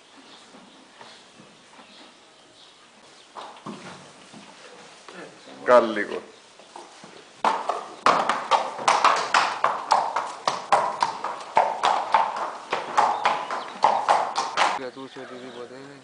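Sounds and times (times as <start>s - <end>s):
horse hooves on concrete: 0.0s - 14.8s.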